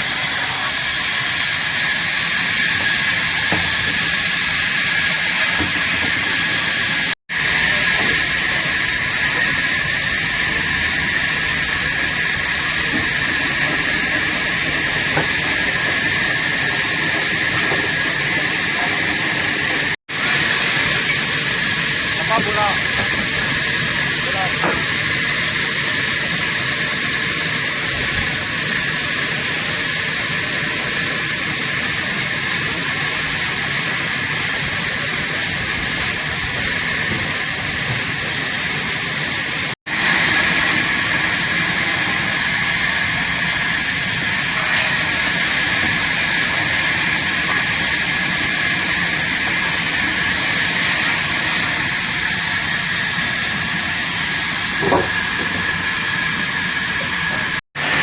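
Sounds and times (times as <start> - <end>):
sawmill saw hissing: 0.0 - 58.0.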